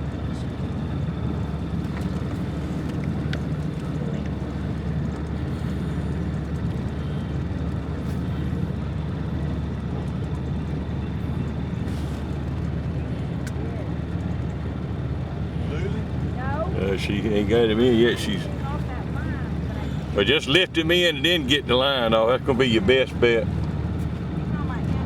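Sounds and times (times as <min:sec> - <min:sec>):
boat motor droning: 0:00.0 - 0:25.0.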